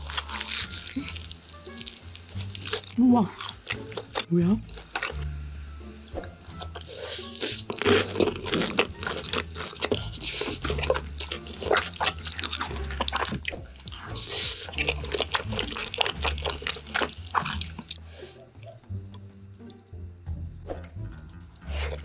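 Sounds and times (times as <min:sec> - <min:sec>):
wet chewing and squishing: 0:00.0 - 0:05.4, 0:06.0 - 0:18.9, 0:21.2 - 0:22.0.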